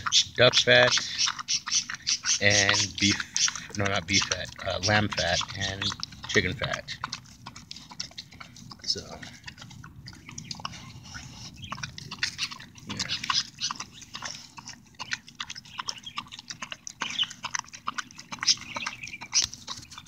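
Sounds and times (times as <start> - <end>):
dog chewing wet food: 0.0 - 20.0.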